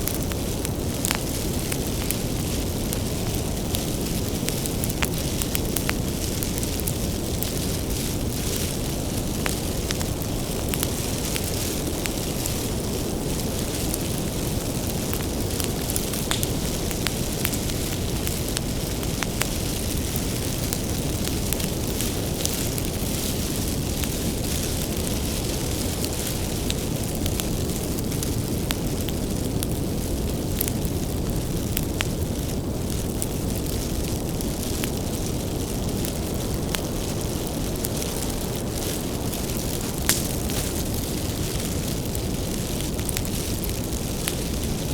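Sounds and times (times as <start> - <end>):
fire crackles and pops: 0.0 - 44.9
wood fire rumbling: 0.0 - 44.9.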